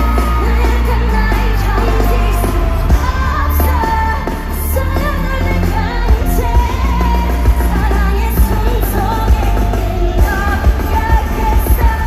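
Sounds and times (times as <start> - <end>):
pop music with heavy bass and beat: 0.0 - 12.0
women singing: 0.0 - 12.0.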